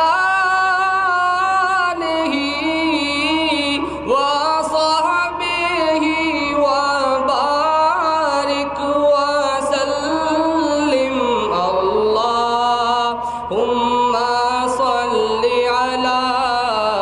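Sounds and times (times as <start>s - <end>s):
man chanting into microphone: 0.0s - 17.0s.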